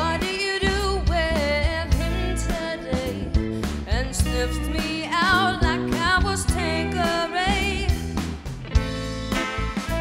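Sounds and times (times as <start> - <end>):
woman singing into a microphone: 0.0 - 8.2
bass line: 0.0 - 10.0
drums: 0.0 - 10.0
electric guitar: 0.0 - 10.0.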